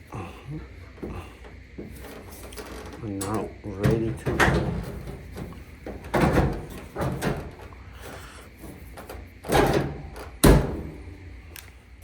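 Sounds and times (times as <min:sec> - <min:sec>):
dryer panels clunking: 0:00.7 - 0:11.2.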